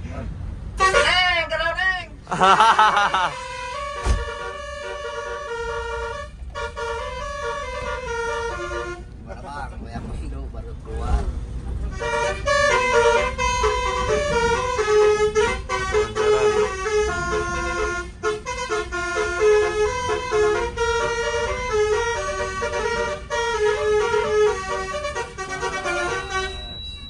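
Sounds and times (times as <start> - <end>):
bus rumble: 0.0 - 27.0
air horn melody: 0.8 - 1.3, 3.0 - 9.1, 11.9 - 27.0.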